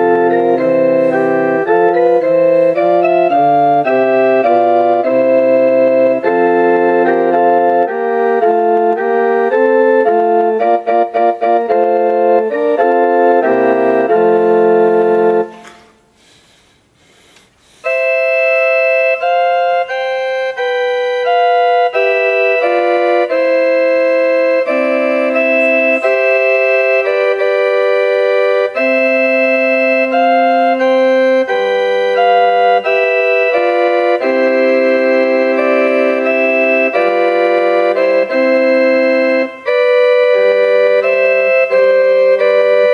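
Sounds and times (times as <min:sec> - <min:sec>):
electronic keyboard playing chords: 0:00.0 - 0:16.2, 0:17.8 - 0:42.9.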